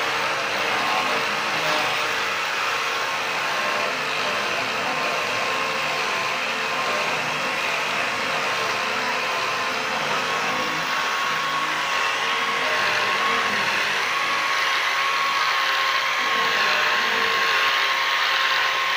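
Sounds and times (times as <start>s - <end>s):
angle grinder on stone: 0.0s - 18.9s.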